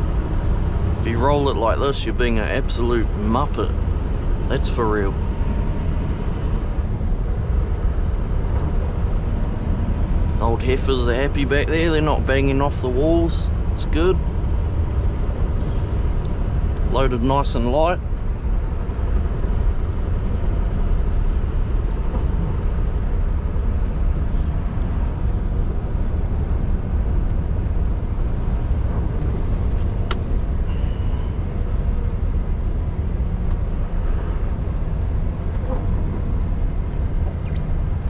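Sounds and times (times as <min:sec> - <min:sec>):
truck engine rumble and road noise: 0:00.0 - 0:38.0.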